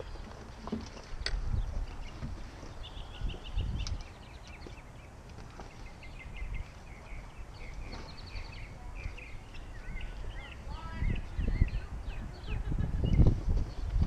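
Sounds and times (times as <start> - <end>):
birds chirping and singing: 0.0 - 14.0.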